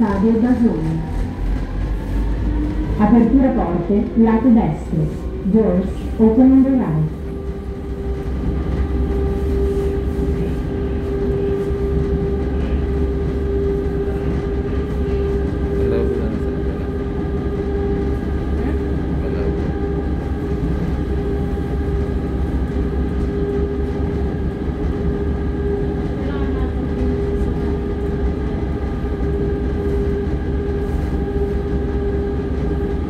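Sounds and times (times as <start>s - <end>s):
train running through tunnel: 0.0s - 33.0s.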